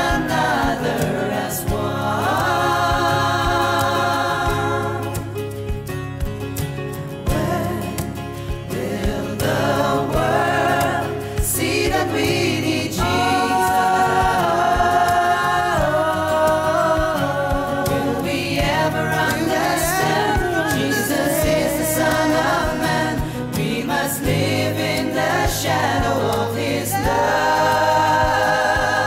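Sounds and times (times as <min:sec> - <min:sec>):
mixed choir singing gospel: 0:00.0 - 0:06.2, 0:06.9 - 0:29.0.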